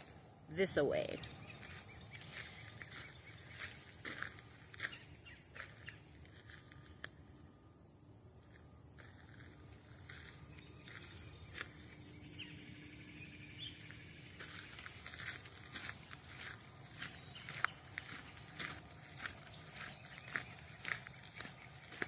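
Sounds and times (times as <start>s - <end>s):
footsteps on a trail: 0.0s - 7.2s, 8.4s - 12.2s, 13.8s - 22.0s
high insect buzz: 0.0s - 22.0s.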